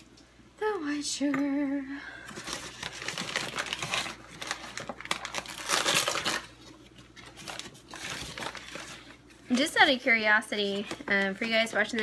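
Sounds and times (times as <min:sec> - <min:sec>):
sugar bag crinkling: 0:02.3 - 0:12.0.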